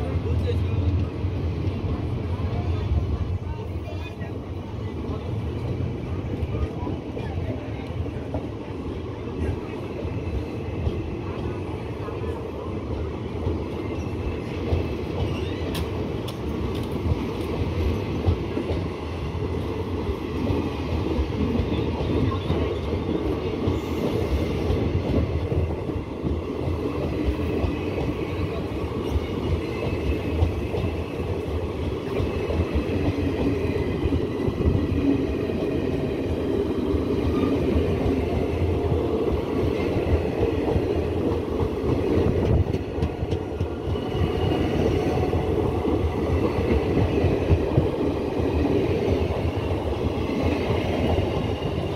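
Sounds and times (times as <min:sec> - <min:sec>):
train wheels clattering on rails: 0:05.0 - 0:12.4, 0:13.0 - 0:51.9.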